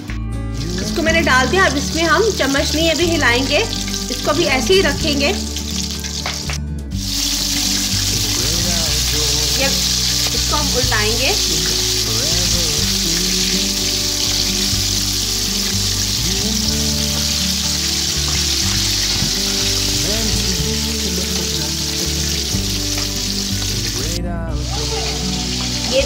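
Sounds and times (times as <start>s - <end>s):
chicken deep-frying sizzle: 0.6s - 26.0s.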